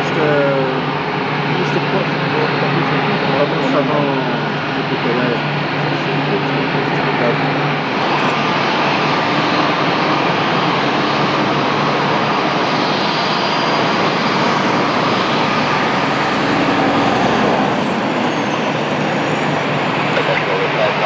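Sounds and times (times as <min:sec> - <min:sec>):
jet engines running loud: 0:00.0 - 0:21.0.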